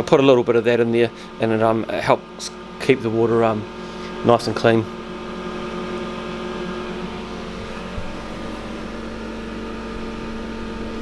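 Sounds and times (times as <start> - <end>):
small fan whirring hum: 0.0 - 11.0.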